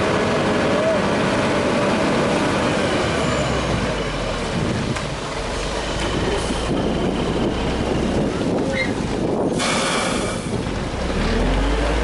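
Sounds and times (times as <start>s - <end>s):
heavy machinery engine rumbling: 0.0s - 12.0s.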